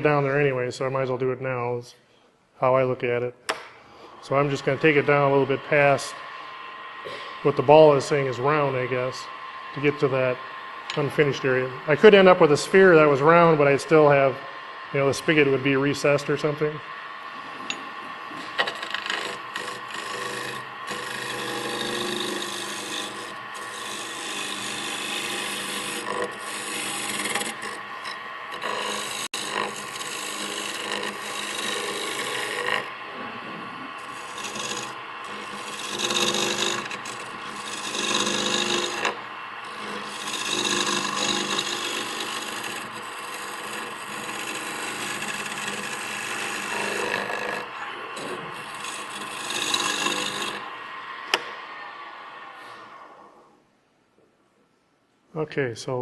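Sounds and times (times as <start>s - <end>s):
turning tool scraping wood: 3.9s - 53.5s
lathe motor hum: 3.9s - 53.6s.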